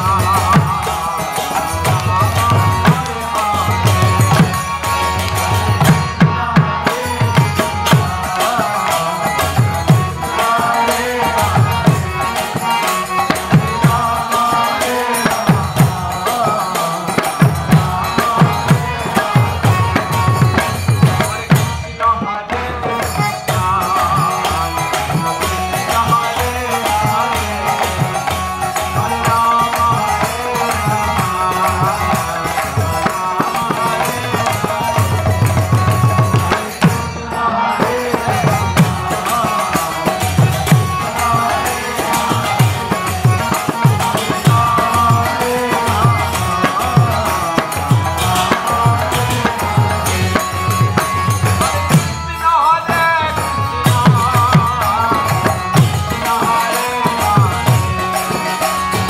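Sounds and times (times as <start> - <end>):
jingling hand cymbals: 0.0 - 59.0.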